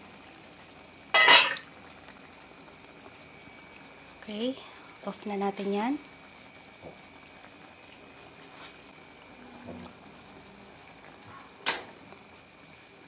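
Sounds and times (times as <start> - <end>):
sauce bubbling in a pan: 0.0 - 13.0.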